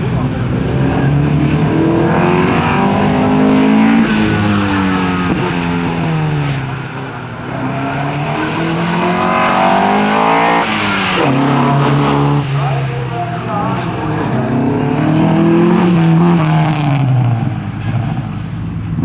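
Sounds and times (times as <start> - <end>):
car engine revving hard: 0.0 - 19.0.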